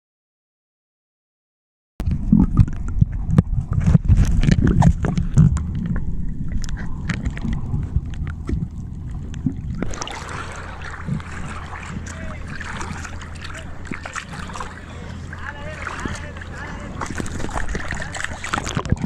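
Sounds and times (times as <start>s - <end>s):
low hum with hiss: 2.0s - 19.0s
wind buffeting microphone: 2.0s - 19.0s.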